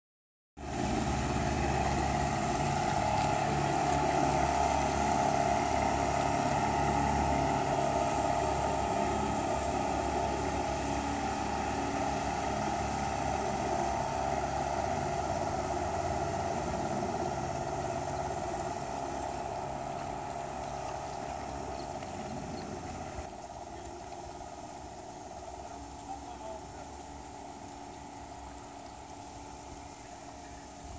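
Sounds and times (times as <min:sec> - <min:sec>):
motorboat engine running: 0:00.6 - 0:30.9.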